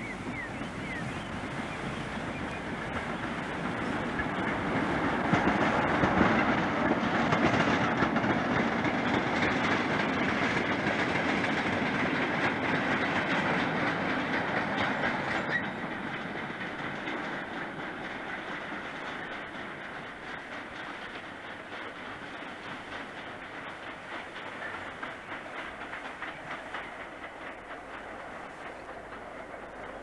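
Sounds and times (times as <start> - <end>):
freight train passing: 0.0 - 30.0
wheels clattering over rail joints: 0.0 - 30.0.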